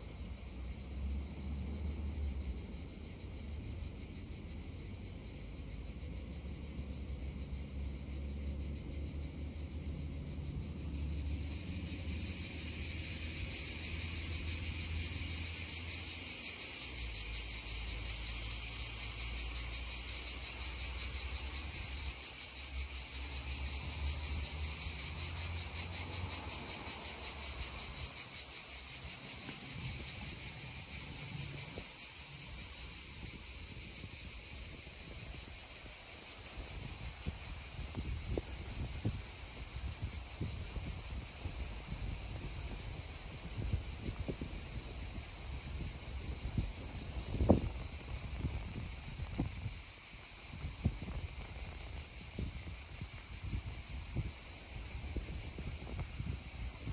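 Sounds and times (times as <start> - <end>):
cicadas droning: 0.0 - 56.9.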